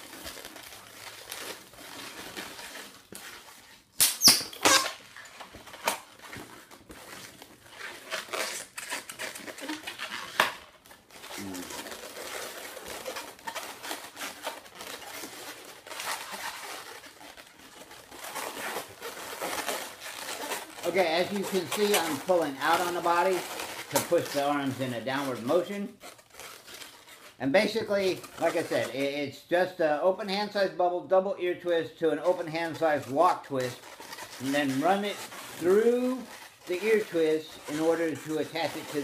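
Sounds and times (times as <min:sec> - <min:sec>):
balloons rubbing and squeaking: 0:00.0 - 0:39.0.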